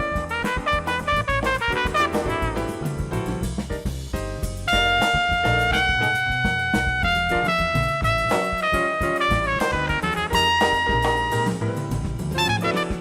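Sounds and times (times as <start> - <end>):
trumpet playing jazz melody: 0.0 - 3.7, 4.4 - 13.0
backing track with bass line: 0.0 - 13.0.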